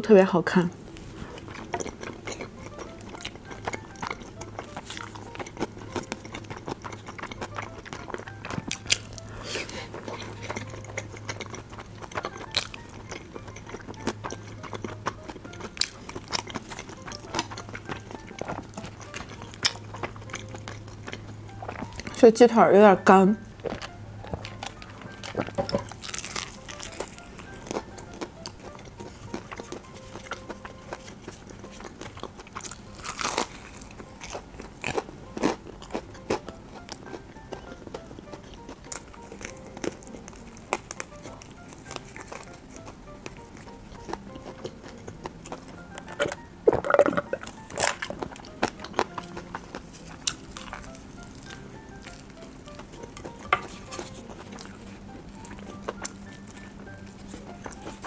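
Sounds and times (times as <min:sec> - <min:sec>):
crunchy fried chicken chewing: 0:00.9 - 0:22.4, 0:23.4 - 0:58.0.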